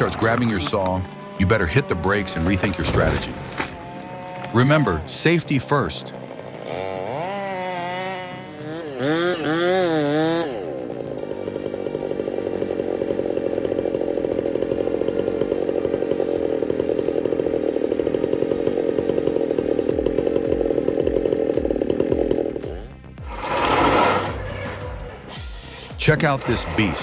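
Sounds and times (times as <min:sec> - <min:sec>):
chainsaw cutting: 0:00.0 - 0:27.0.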